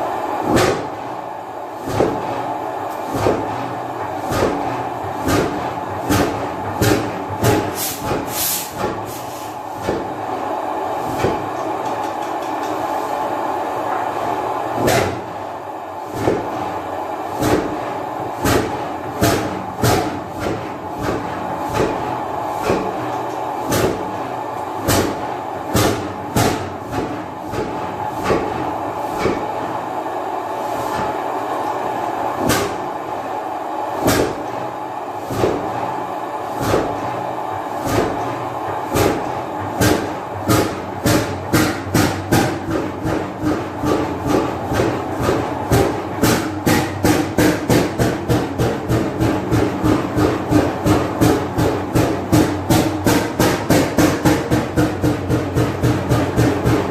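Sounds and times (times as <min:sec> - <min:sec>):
steady engine hum: 0:00.0 - 0:56.9.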